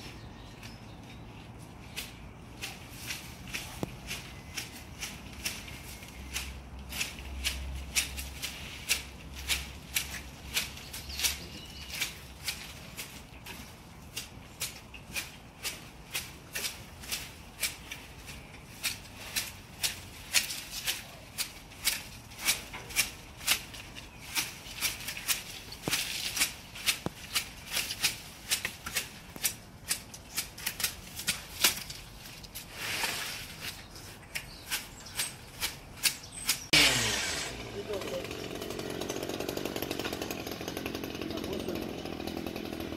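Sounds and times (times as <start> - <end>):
leaves rustling: 0.0 - 42.9
pruning shears snipping: 0.5 - 42.9.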